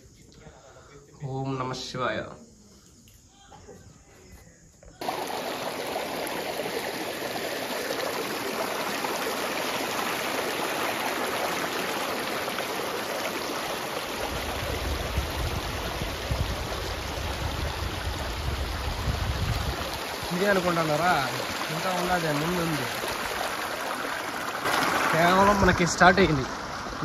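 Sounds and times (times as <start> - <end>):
stream rushing over rocks: 5.0 - 27.0.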